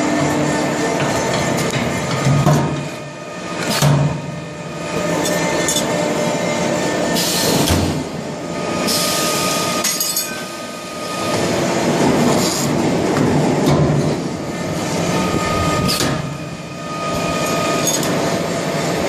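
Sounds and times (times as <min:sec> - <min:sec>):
metallic machine noise: 0:00.0 - 0:19.0.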